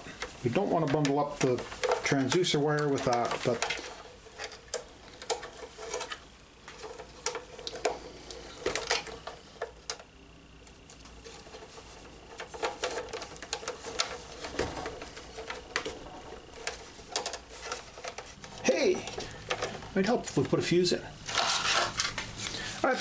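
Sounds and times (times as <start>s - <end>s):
cables clicking and rustling: 0.0s - 23.0s.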